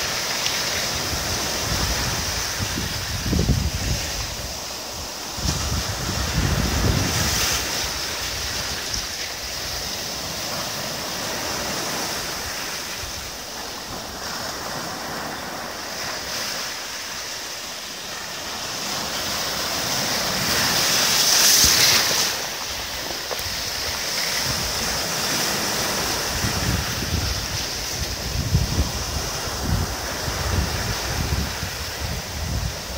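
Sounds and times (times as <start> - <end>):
ocean surf breaking: 0.0 - 32.9.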